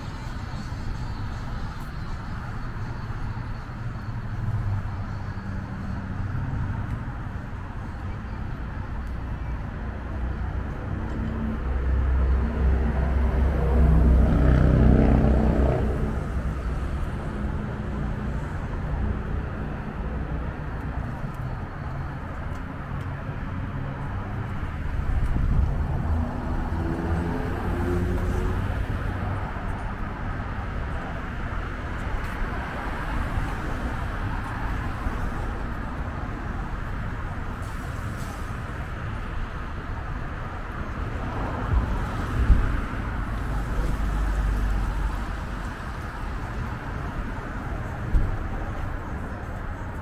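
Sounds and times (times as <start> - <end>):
road traffic: 0.0 - 50.0.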